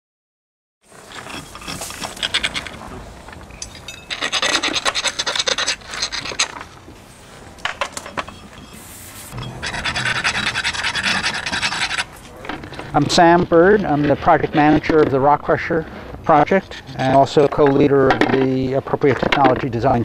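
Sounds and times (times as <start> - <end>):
rough scratching and scraping: 0.8 - 20.0.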